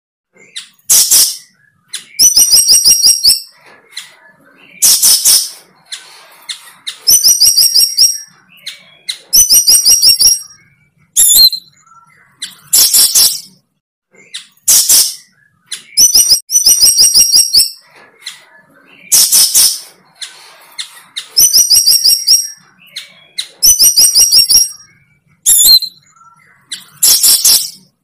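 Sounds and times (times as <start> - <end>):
bird chirping: 0.3 - 28.0.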